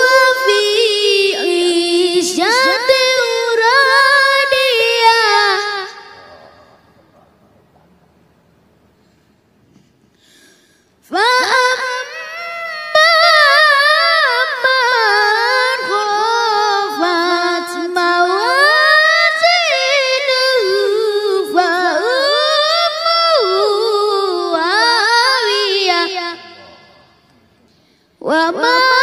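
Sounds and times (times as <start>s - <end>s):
boy reciting melodically: 0.0s - 7.0s, 11.0s - 27.2s, 28.2s - 29.0s.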